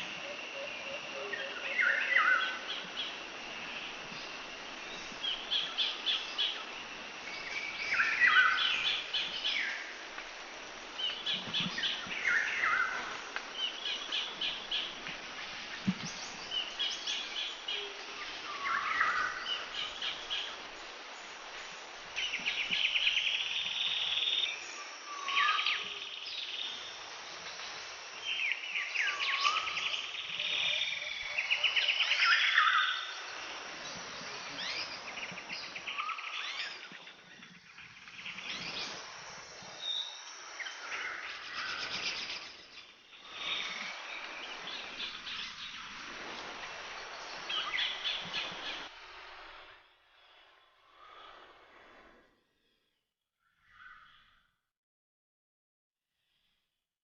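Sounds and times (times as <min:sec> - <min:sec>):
steady background hiss: 0:00.0 - 0:52.4.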